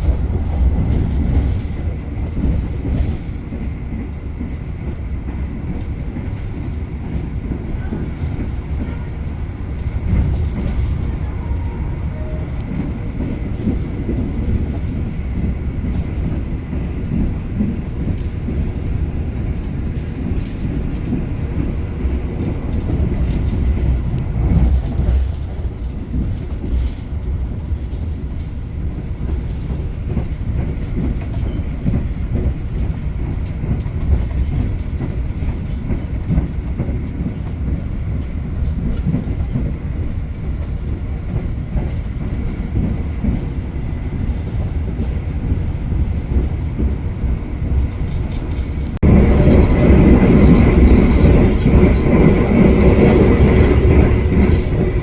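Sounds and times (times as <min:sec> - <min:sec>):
train clatter: 0:00.0 - 0:55.0
train wheels rumbling on rail: 0:00.0 - 0:55.0.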